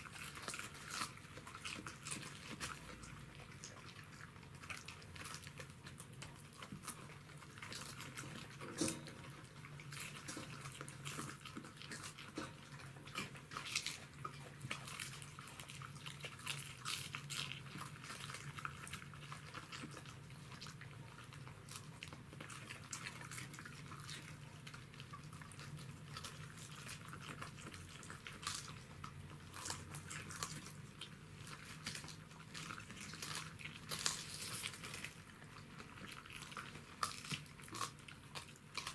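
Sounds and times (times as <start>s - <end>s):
dogs chewing cabbage leaves: 0.0s - 38.9s.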